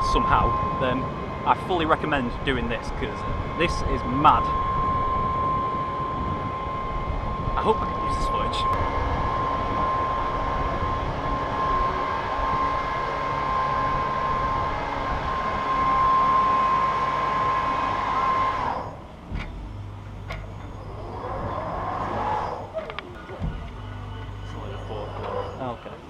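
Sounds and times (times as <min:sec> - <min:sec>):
high whine: 0:00.0 - 0:26.0
low hum: 0:00.0 - 0:26.0
machine noise: 0:00.0 - 0:26.0.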